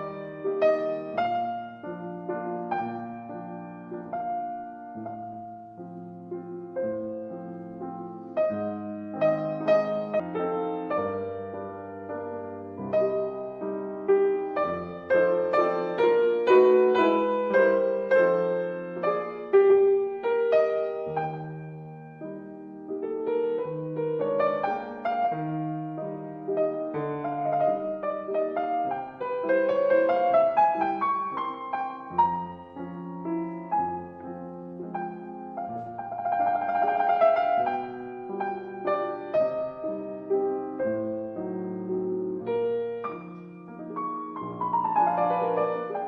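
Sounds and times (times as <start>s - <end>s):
gentle piano music: 0.0s - 46.0s.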